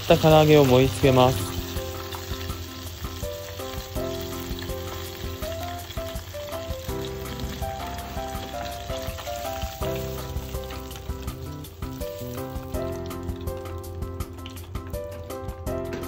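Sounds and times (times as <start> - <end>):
meat sizzling in hot oil: 0.0 - 16.0
slow melodic background music: 0.0 - 16.0.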